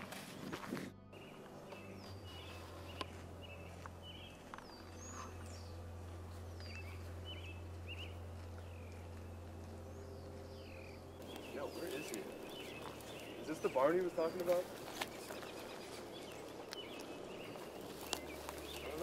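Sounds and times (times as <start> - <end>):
steady low hum: 0.0 - 19.0
wild birds chirping and whistling: 0.2 - 19.0.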